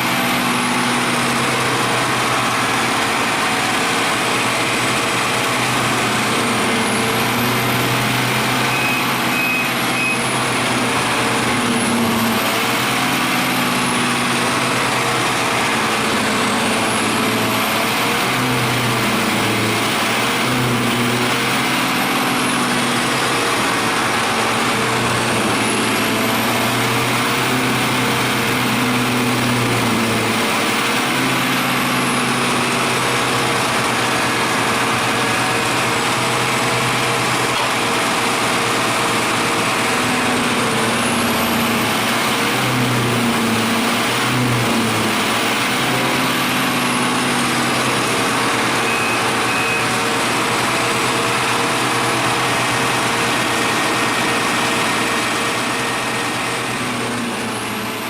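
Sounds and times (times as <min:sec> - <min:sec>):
wood chipper engine running: 0:00.0 - 0:58.0.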